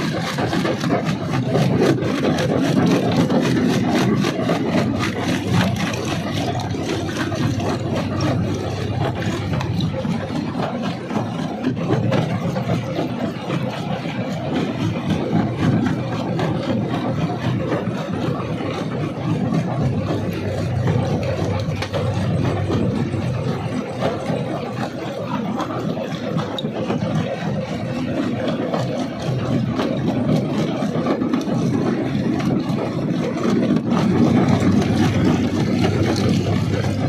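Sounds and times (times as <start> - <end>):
crusher engine drone: 0.0 - 37.0.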